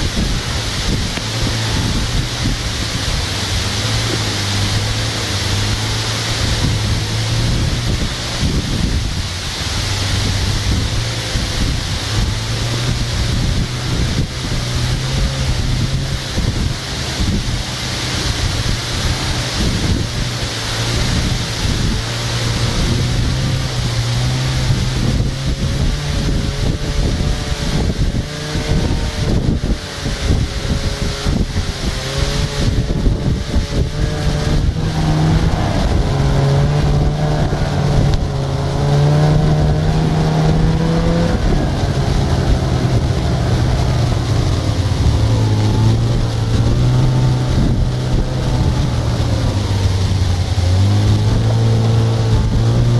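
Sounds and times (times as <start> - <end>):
motor engine revving: 0.0 - 52.9
wind buffeting microphone: 0.0 - 52.9.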